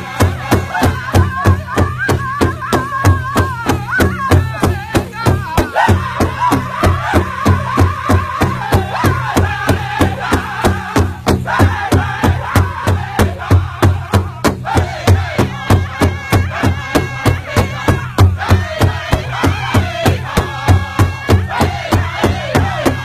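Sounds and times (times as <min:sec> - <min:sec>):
big drum fast steady beat: 0:00.0 - 0:23.0
men singing in high voices: 0:00.0 - 0:23.0.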